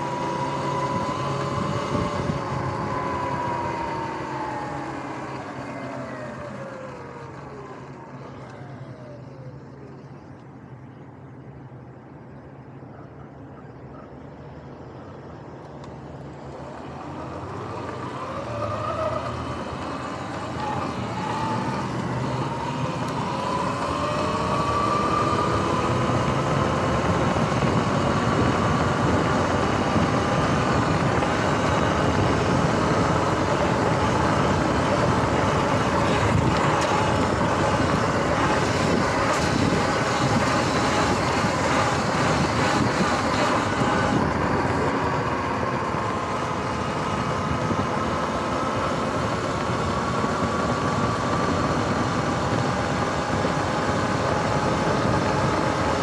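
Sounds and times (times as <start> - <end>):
tyre and wind noise: 0.0 - 7.2, 16.4 - 56.0
electric motorbike motor whine: 0.0 - 11.7, 14.7 - 56.0.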